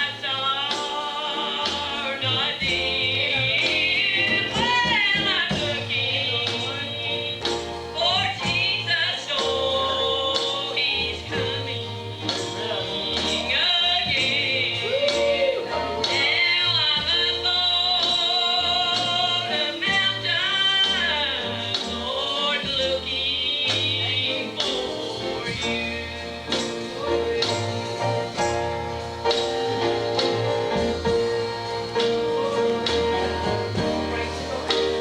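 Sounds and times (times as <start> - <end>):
drum beat: 0.8 - 6.8, 10.4 - 35.0
bass notes: 1.6 - 35.0.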